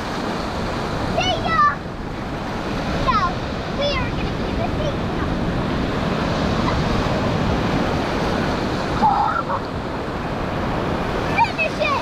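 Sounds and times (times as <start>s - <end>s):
ocean surf washing onto beach: 0.0s - 12.0s
wind on microphone: 0.0s - 12.0s.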